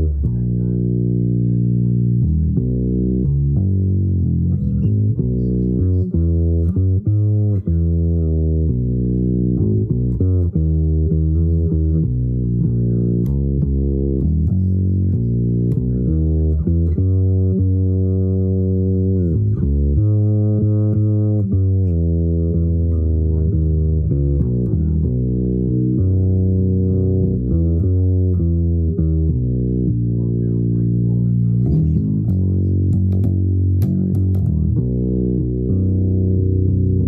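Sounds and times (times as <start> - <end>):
bass guitar plucking low notes: 0.0 - 37.0.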